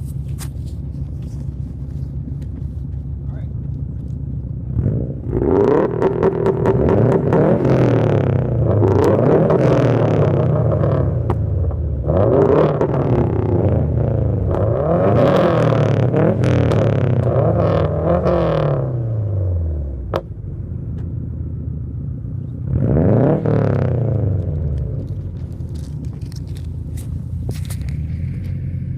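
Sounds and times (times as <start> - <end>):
car engine idling: 0.0 - 28.9
car engines revving: 0.0 - 28.9.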